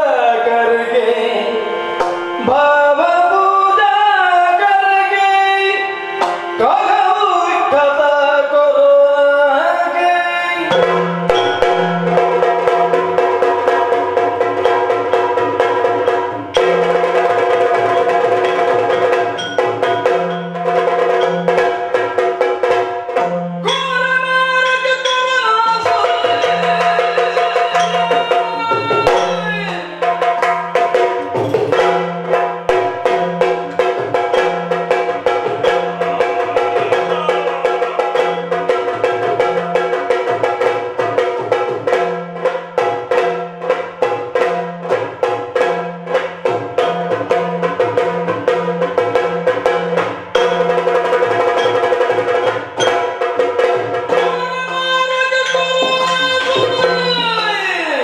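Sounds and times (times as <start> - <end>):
rapid drum strokes: 10.5 - 58.0.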